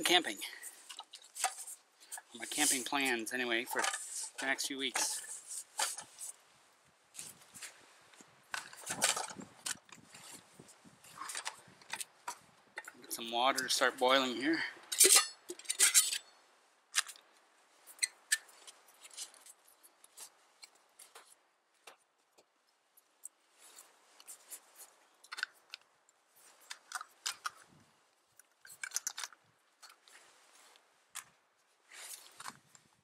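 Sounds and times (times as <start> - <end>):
camp gear clicks taps and rustles: 0.0 - 6.4, 7.2 - 13.8, 14.9 - 16.2, 16.9 - 33.0.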